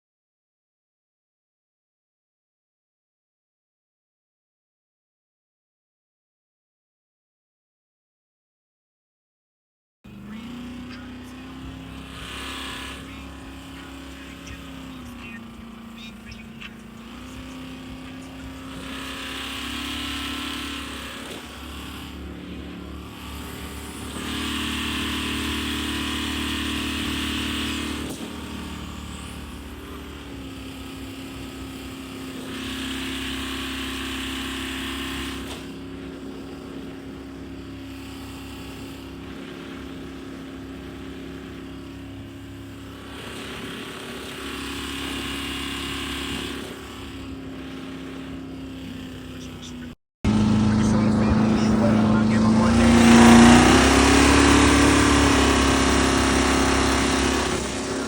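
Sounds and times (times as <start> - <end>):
motorboat engine running: 10.1 - 58.0.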